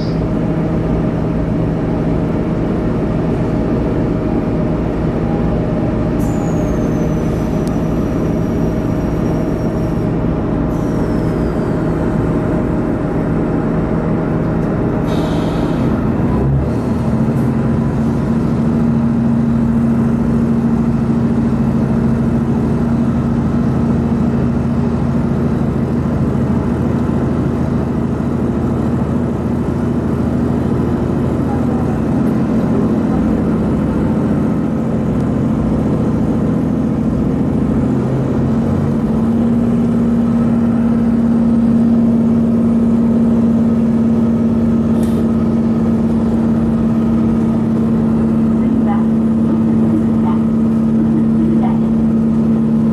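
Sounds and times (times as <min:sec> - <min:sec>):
vehicle engine droning: 0:00.0 - 0:52.9.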